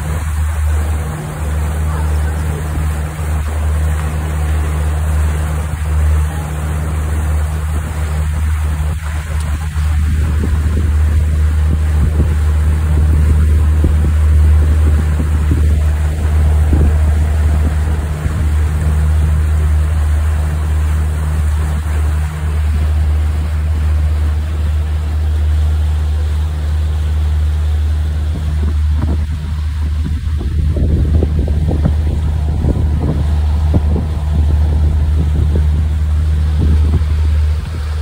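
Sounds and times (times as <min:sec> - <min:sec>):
outboard motor droning: 0:00.0 - 0:38.0
wind and water rushing: 0:00.0 - 0:38.0.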